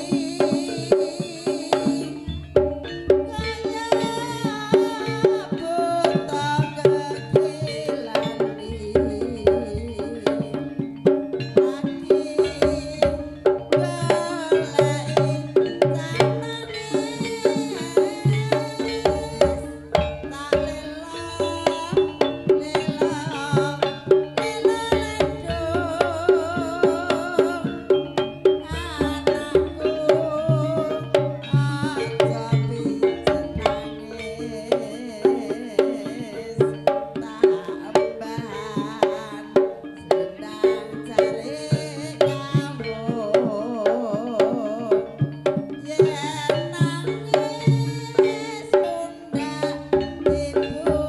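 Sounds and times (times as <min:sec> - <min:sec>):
hand drums beating: 0:00.0 - 0:51.0
wavering melody line: 0:00.0 - 0:51.0.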